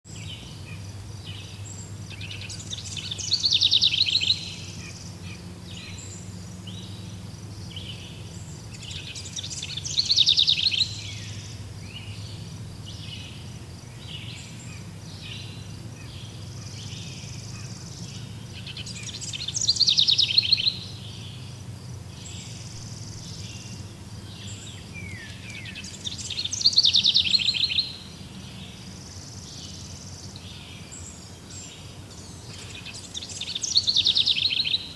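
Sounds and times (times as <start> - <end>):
birds chirping: 0.1 - 34.9
low steady hum: 0.1 - 34.9.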